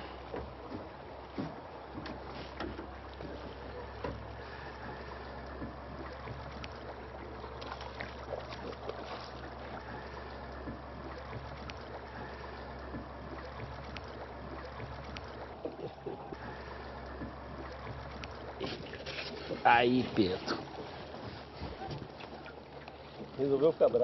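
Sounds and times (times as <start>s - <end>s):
steady low hum: 0.0s - 23.8s
water noise: 0.0s - 24.0s.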